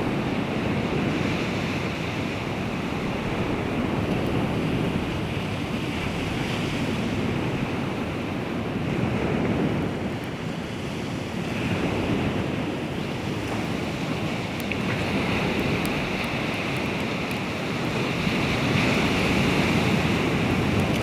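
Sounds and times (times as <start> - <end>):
waves washing on shore: 0.1 - 21.0.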